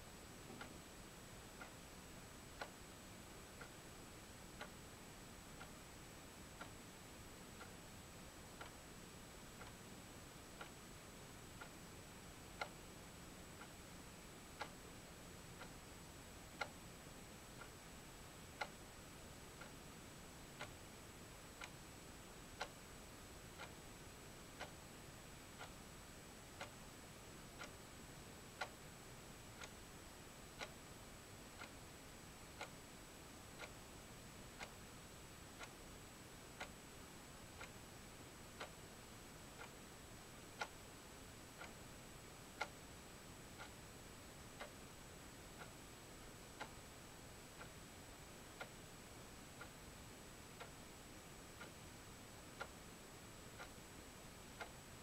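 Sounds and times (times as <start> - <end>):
faint hiss: 0.0 - 55.0
clock ticking: 0.4 - 55.0.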